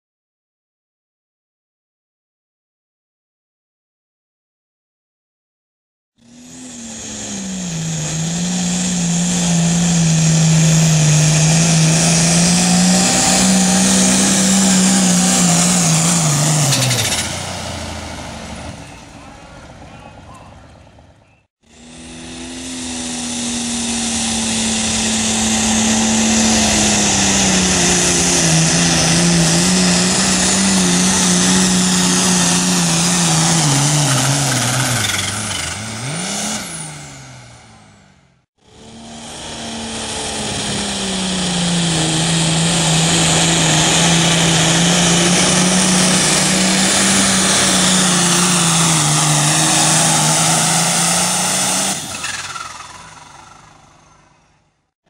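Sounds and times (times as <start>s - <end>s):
diesel tractor engine at full throttle: 6.2s - 54.9s.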